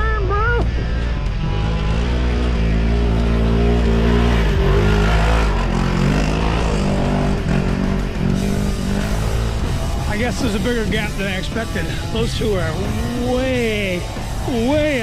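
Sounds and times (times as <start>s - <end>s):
engines revving hard: 0.0s - 15.0s.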